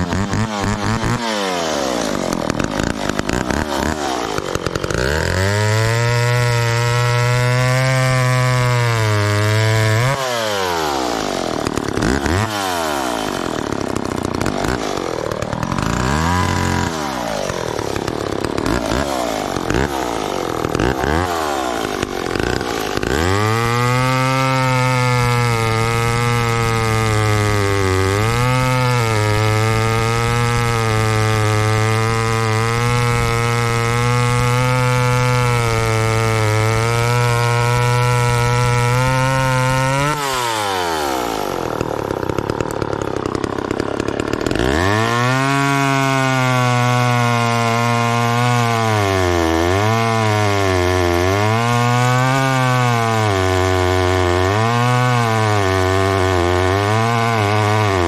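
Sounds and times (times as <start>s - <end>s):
chainsaw running at high revs: 0.0s - 58.0s.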